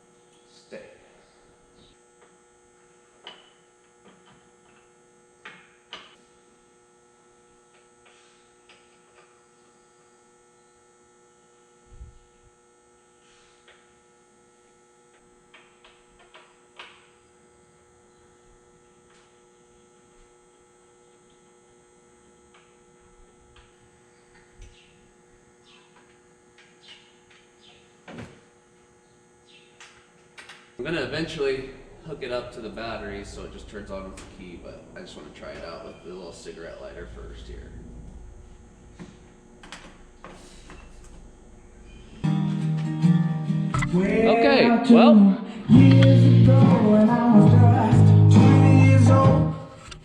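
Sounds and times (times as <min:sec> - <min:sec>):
faint electrical hum: 0:00.0 - 0:50.0.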